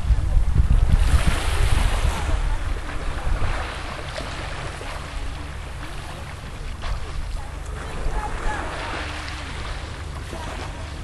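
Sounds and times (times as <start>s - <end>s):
wind buffeting microphone: 0.0s - 10.9s
sea waves washing on shore: 0.0s - 11.0s.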